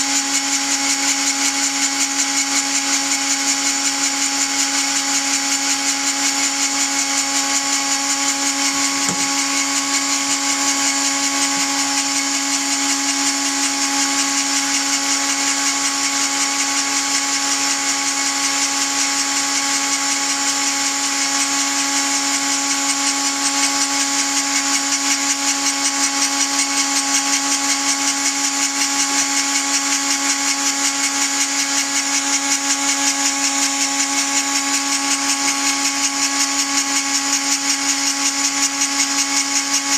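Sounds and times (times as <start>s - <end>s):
rotary tool grinder whine: 0.0s - 39.9s.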